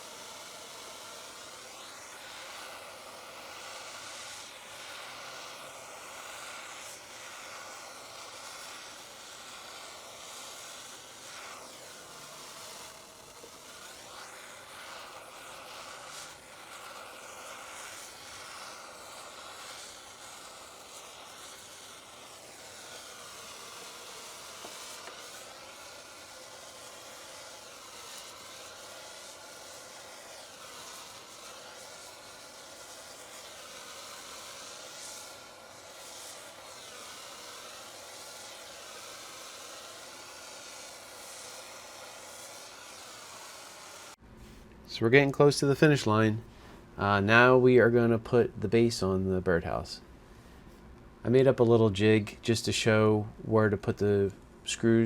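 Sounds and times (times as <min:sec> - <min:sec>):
propane torch hissing: 0:00.0 - 0:49.8.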